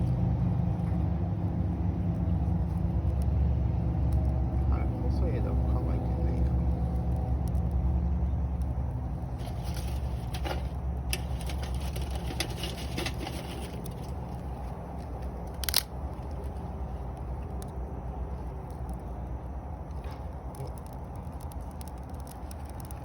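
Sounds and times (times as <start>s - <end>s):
low steady rumble: 0.0s - 23.0s
campfire crackling and popping: 1.4s - 23.0s.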